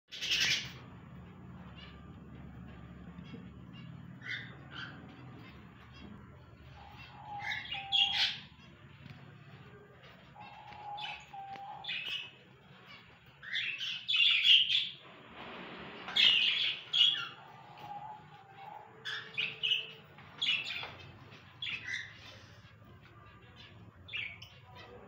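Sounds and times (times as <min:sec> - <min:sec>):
cockatiels chirping: 0:00.1 - 0:15.0, 0:16.1 - 0:25.0.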